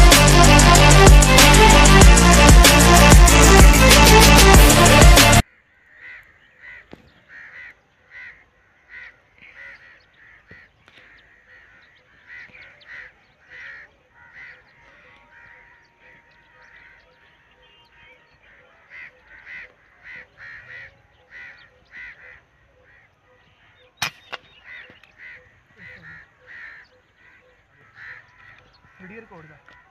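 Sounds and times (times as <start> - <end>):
birds calling: 0.0 - 29.9.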